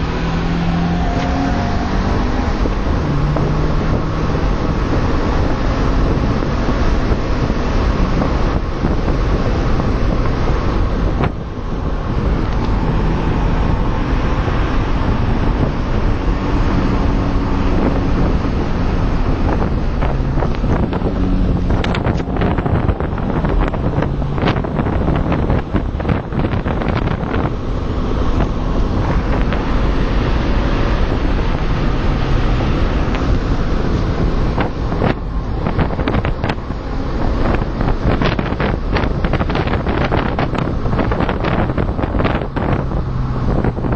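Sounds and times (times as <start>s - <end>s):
car engine running: 0.0s - 43.9s
wind and road noise: 0.0s - 43.9s.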